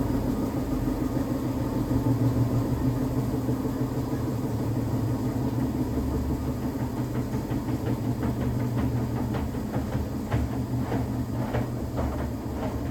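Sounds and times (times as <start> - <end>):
washing machine hum: 0.0 - 12.9.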